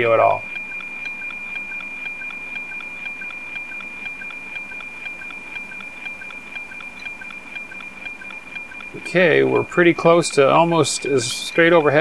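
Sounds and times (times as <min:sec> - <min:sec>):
steady high tone with ticking: 0:00.0 - 0:12.0.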